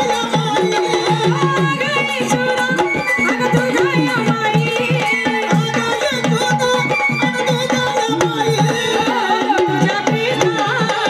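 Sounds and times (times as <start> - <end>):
hand drums playing rhythm: 0.0 - 11.0
woman singing amplified: 0.0 - 11.0.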